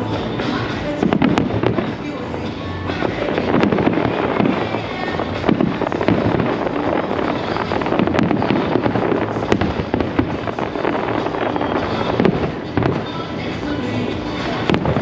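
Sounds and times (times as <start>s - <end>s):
firework bangs: 0.0s - 15.0s
rumble and crackle of fireworks: 0.0s - 15.0s.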